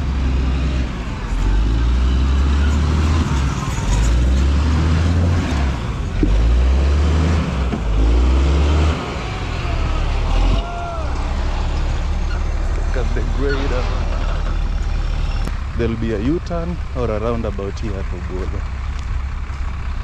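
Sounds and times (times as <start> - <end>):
heavy low rumble: 0.0 - 20.0
vehicle moving along a road: 0.0 - 20.0.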